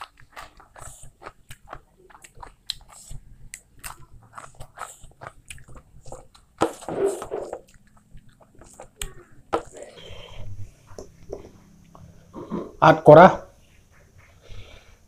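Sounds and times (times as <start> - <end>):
wet chewing: 0.0 - 12.1.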